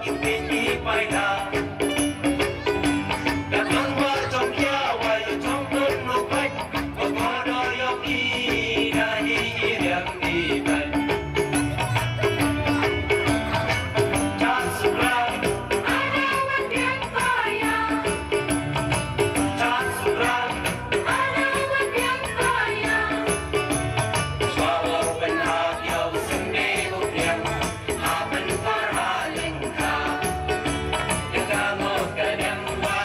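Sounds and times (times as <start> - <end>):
shaken rattle percussion beat: 0.0 - 33.0
voices singing folk tune: 0.0 - 33.0.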